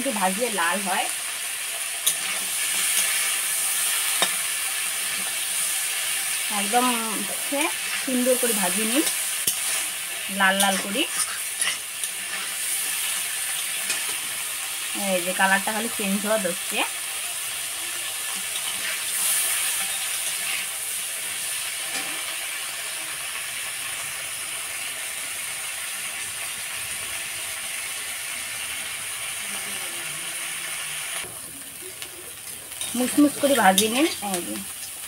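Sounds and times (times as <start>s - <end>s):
crabs sizzling in oil: 0.0s - 35.0s.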